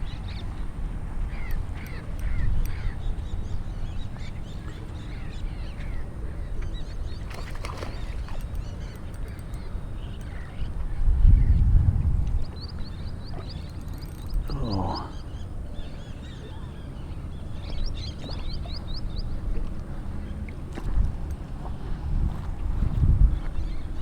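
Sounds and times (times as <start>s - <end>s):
small birds chirping: 0.0s - 11.6s, 12.4s - 20.5s.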